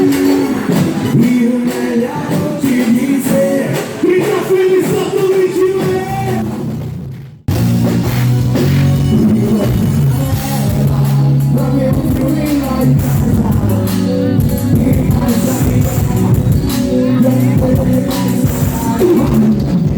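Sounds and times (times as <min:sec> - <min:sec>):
live band with singer: 0:00.0 - 0:06.8, 0:07.5 - 0:19.9
song with heavy bass: 0:00.0 - 0:19.9.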